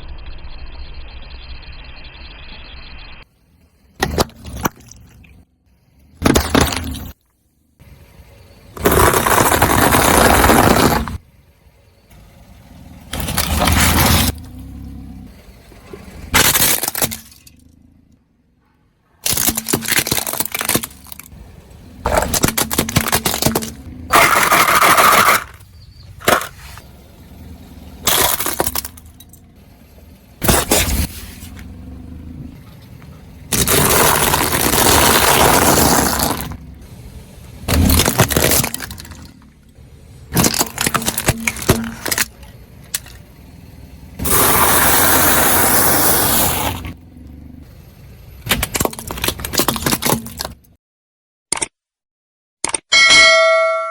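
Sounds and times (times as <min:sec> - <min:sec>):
car tyre crushing brittle objects: 0:03.6 - 0:18.1, 0:19.2 - 0:50.8.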